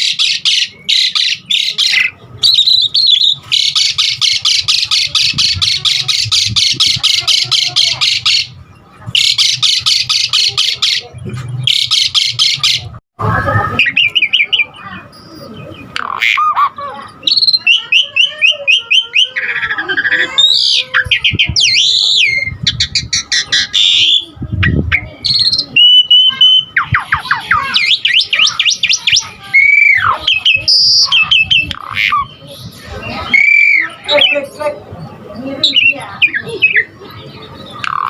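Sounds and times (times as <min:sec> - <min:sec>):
starling singing: 0:00.0 - 0:38.0.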